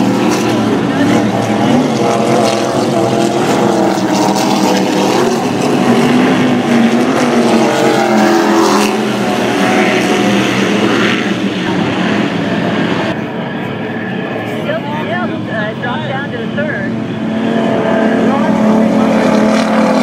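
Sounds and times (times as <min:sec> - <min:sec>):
powerboat engines passing: 0:00.0 - 0:20.0.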